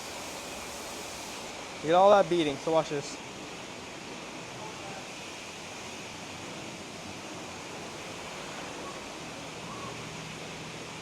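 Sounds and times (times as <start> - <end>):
hose spraying water on car: 0.0 - 9.6.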